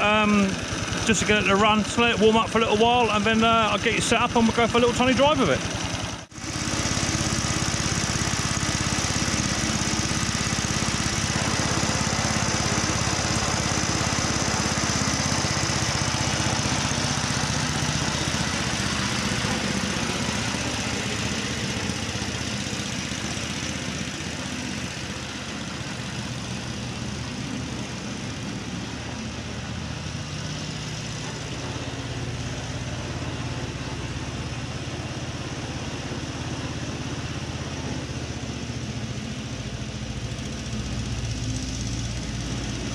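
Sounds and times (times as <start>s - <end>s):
mower engine idling: 0.0s - 42.9s.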